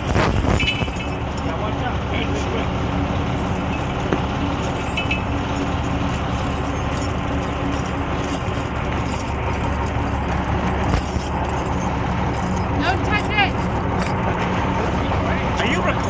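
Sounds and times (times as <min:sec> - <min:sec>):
engine running: 0:00.0 - 0:16.0
tire chains clinking: 0:00.0 - 0:16.0.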